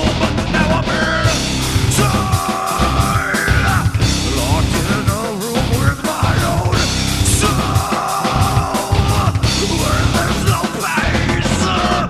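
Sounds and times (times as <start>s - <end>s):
distorted electric guitars: 0.0s - 12.0s
pounding drums: 0.0s - 12.0s
person yelling vocals: 0.6s - 12.0s.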